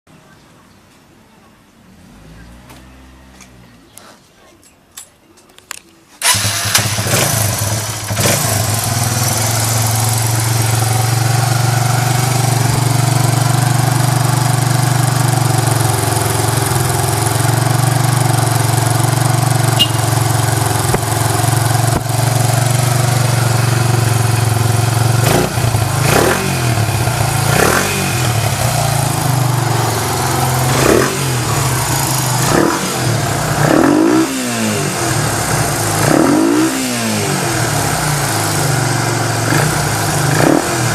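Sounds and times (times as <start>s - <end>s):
motorcycle engine idling and revving: 1.8s - 3.9s, 6.2s - 40.9s.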